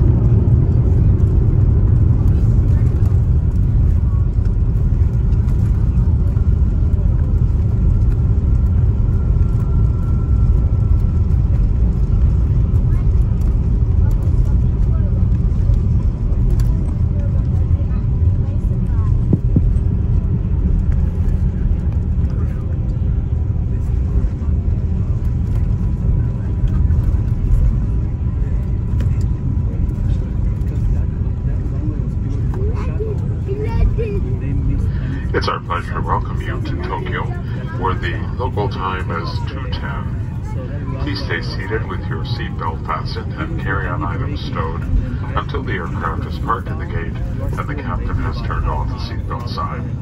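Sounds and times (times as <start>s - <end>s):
wheels and engines rumbling: 0.0s - 50.0s.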